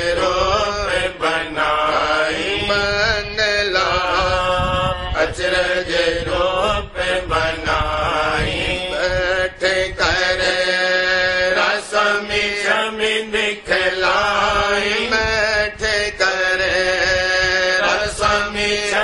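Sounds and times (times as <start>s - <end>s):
person chanting a hymn: 0.0s - 19.0s
steady low drone: 0.0s - 19.0s.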